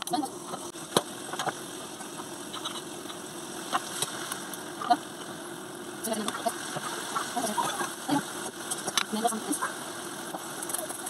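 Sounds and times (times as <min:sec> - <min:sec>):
patties frying in a pan: 0:00.0 - 0:11.0
steady hum: 0:00.0 - 0:11.0.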